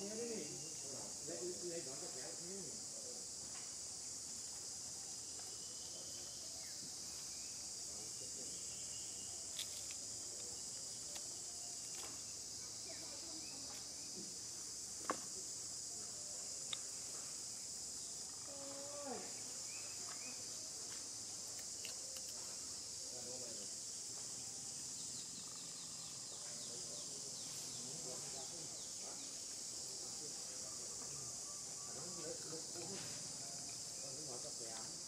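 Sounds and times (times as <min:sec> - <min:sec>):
insect chorus drone: 0:00.0 - 0:35.0.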